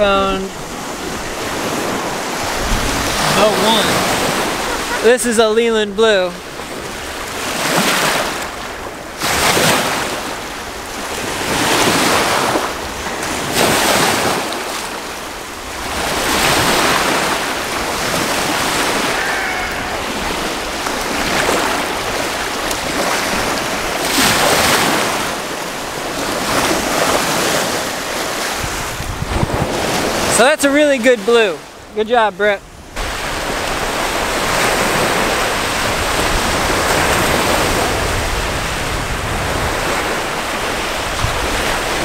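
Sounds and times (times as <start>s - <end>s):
wind on microphone: 0.0s - 5.1s, 6.4s - 30.4s, 32.6s - 42.0s
waves washing on sandy shore: 0.0s - 42.0s.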